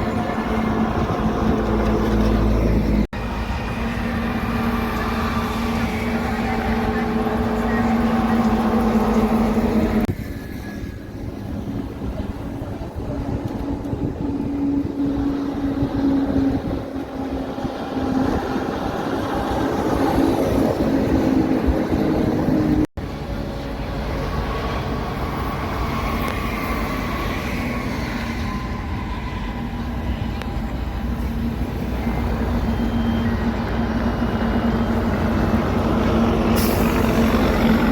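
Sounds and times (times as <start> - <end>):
truck engines droning: 0.0 - 37.9.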